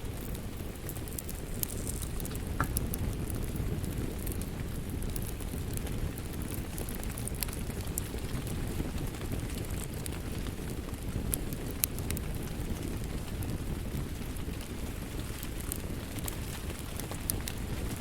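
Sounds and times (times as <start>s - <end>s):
rain: 0.0s - 18.0s
wood fire crackling: 0.0s - 18.0s.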